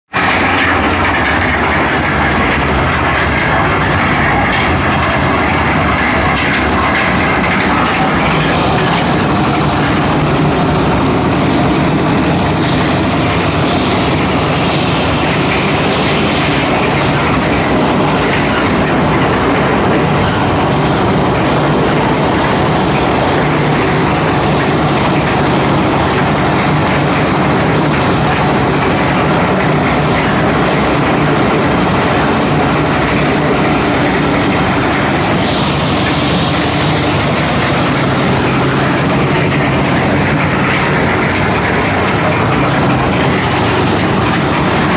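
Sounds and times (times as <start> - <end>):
concrete mixer engine drone: 0.1 - 44.9.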